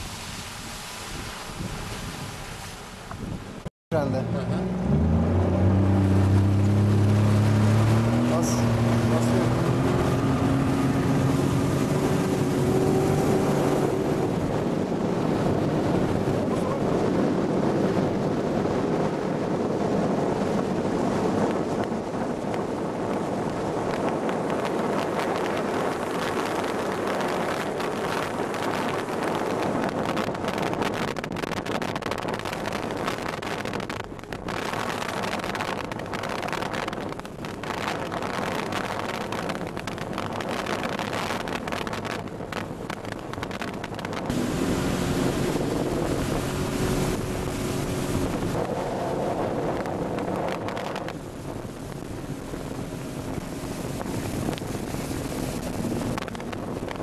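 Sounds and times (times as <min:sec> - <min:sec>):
rushing water: 0:00.0 - 0:57.0
wind on microphone: 0:00.0 - 0:57.0
boat engine running: 0:03.9 - 0:57.0.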